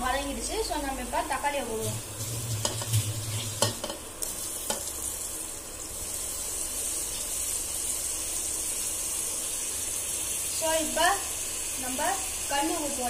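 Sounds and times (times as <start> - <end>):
food sizzling in oil: 1.2 - 13.0.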